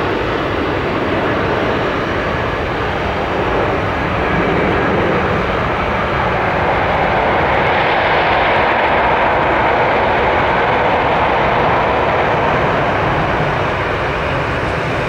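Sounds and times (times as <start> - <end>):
jet engine noise: 0.0 - 15.0.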